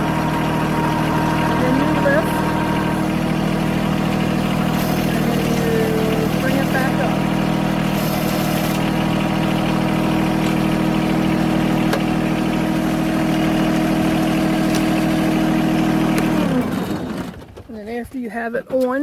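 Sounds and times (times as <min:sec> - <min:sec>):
tractor diesel engine idling: 0:00.0 - 0:18.9.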